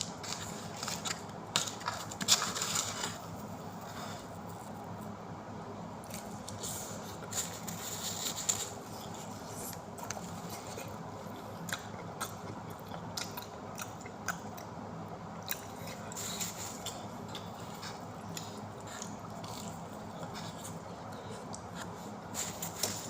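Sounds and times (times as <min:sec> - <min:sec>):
person chewing pizza: 0:00.0 - 0:05.2, 0:06.0 - 0:23.0.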